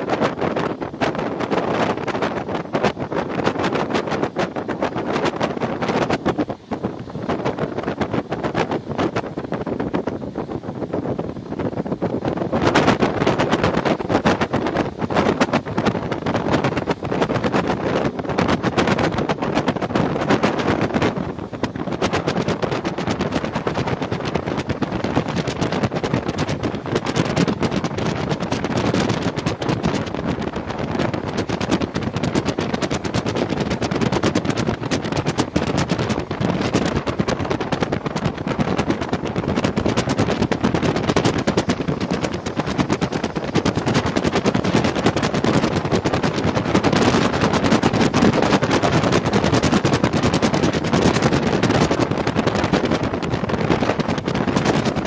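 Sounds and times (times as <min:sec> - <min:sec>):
passenger train running: 0:00.0 - 0:54.3
wind buffeting microphone: 0:00.0 - 0:55.0.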